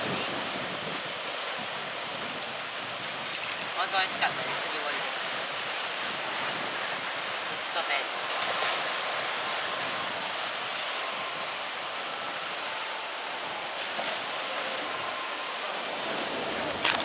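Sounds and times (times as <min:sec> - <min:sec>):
sea waves against seawall: 0:00.0 - 0:17.0.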